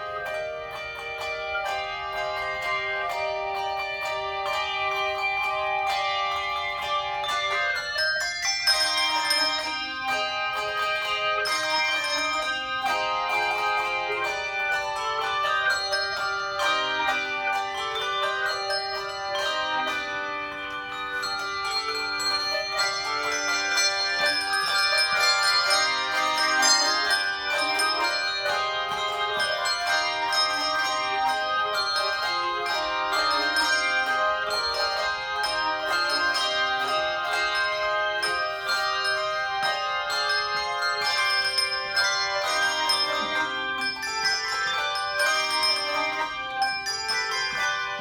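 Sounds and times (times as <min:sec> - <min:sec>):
handbell choir playing: 0:00.0 - 0:48.0.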